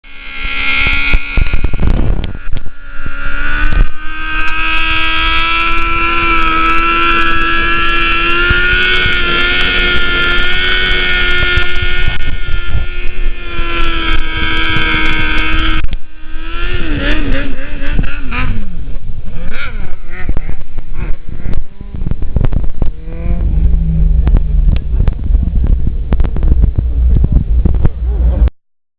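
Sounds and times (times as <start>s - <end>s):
car engine revving high: 0.0s - 28.5s.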